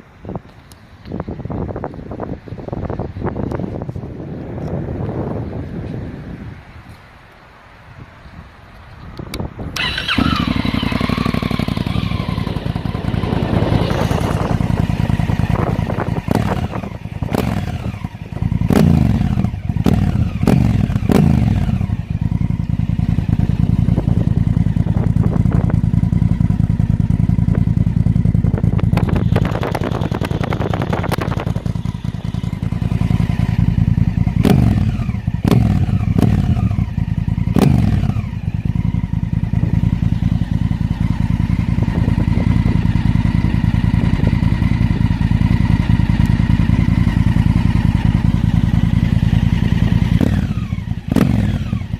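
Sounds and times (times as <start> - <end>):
motorcycle engine idling: 9.7 - 51.9
motorcycle throttle revs: 9.7 - 51.9.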